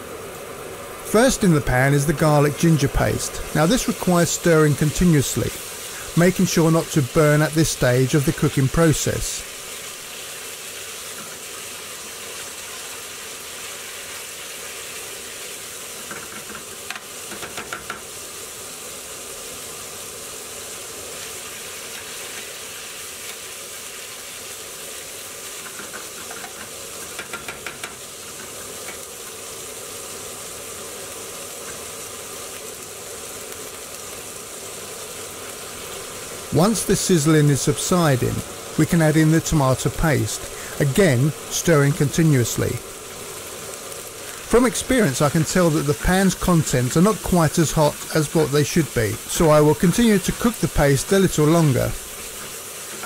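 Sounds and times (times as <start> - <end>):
paste sizzling in hot oil: 0.0 - 53.0.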